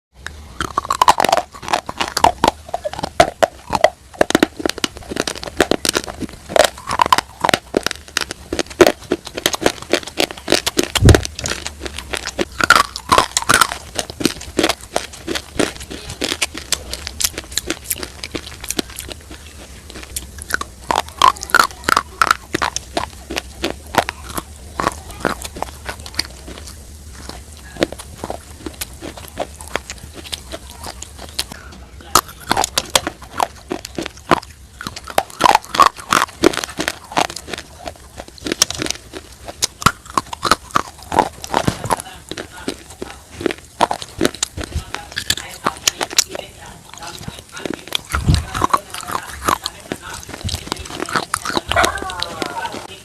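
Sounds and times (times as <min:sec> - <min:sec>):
crunching and chewing: 0:00.2 - 0:53.0.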